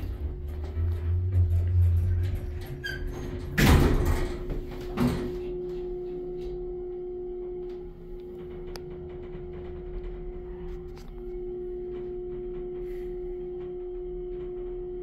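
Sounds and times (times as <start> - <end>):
elevator doors sliding shut: 0.0 - 6.7, 7.6 - 15.0
elevator running hum: 0.0 - 15.0.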